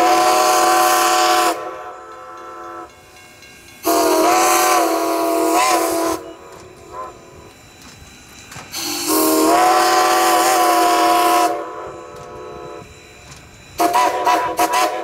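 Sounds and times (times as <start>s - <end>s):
steam locomotive whistle: 0.0s - 2.9s, 3.8s - 7.5s, 8.7s - 13.0s, 13.8s - 15.0s.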